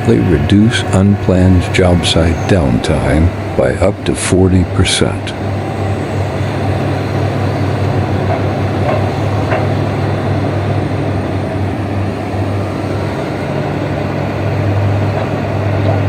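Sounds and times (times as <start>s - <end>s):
diesel machinery engine drone: 0.0s - 16.0s.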